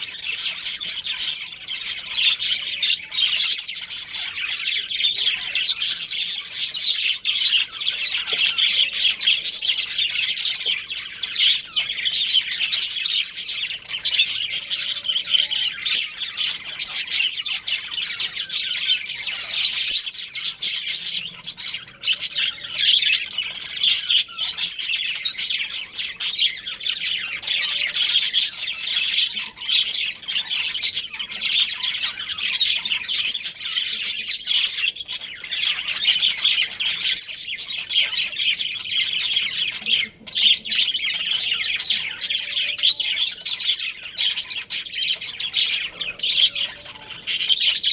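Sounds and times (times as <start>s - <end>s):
budgerigars chirping: 0.0s - 47.9s.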